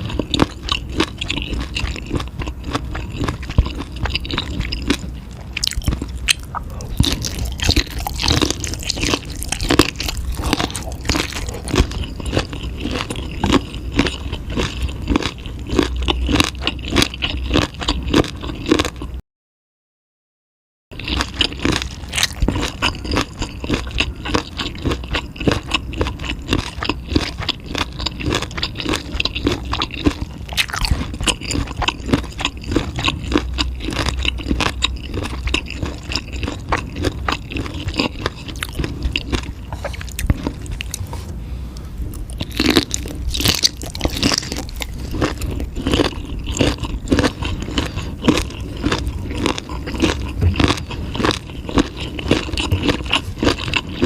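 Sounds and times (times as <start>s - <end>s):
person crunching food: 0.0s - 19.2s, 21.0s - 54.0s.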